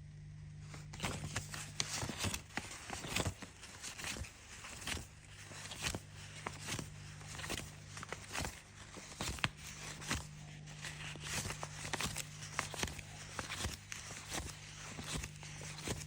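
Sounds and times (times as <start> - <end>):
steady low hum: 0.0 - 16.0
banknotes snapping and rustling: 0.6 - 16.0.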